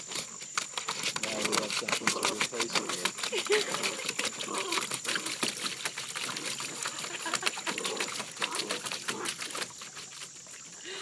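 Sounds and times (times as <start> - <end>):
paws splashing through water: 0.0 - 11.0.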